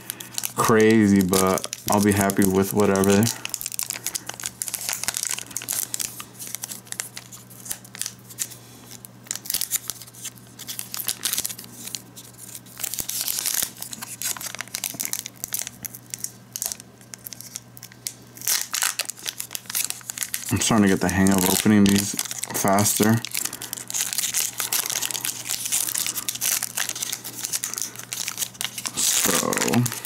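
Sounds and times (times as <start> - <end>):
foil wrapper crinkling and tearing: 0.0 - 30.0.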